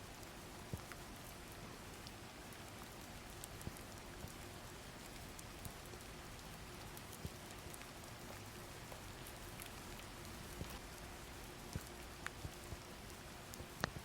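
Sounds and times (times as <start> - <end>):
hiss of falling rain: 0.0 - 14.0.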